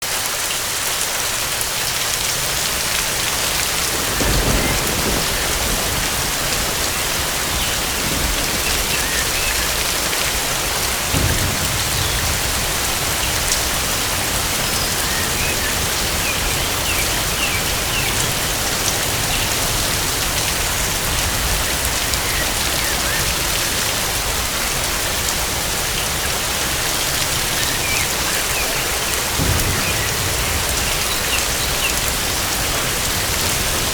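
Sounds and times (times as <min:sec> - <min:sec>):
heavy rain falling: 0:00.0 - 0:33.9
thunder rumbling: 0:01.8 - 0:33.9.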